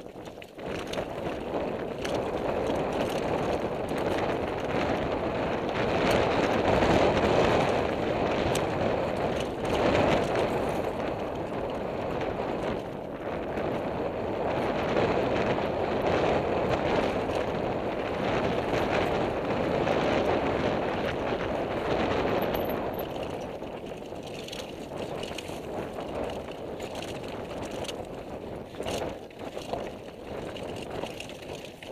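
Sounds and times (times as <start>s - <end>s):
wheels clattering on loose stones: 0.0s - 13.9s, 14.6s - 31.9s
bike rattling: 0.0s - 31.9s.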